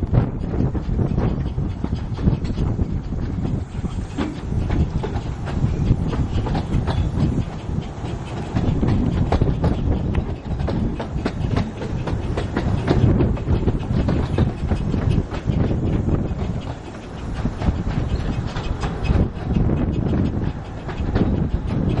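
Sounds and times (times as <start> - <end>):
train rumbling on track: 0.0 - 22.0
wheels clicking and clattering: 0.0 - 22.0.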